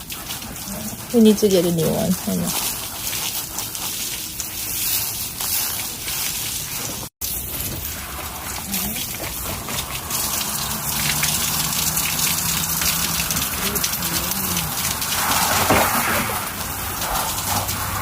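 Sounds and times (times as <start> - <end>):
shower water spraying: 0.0 - 18.0.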